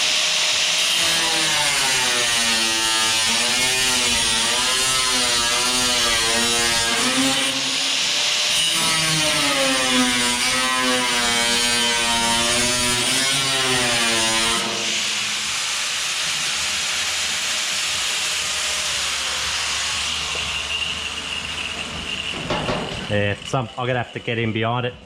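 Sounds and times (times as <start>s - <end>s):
power cutter cutting sheet steel: 0.0s - 24.6s.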